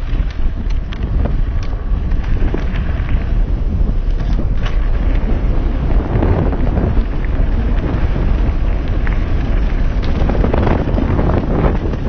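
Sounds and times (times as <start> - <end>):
bike rattling ticks: 0.0 - 12.0
tyres rumbling on dirt: 0.0 - 12.0
wind buffeting microphone: 0.0 - 12.0.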